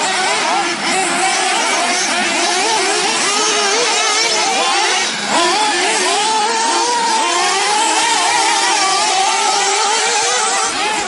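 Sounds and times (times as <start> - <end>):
rc car engines buzzing and revving: 0.0 - 11.0.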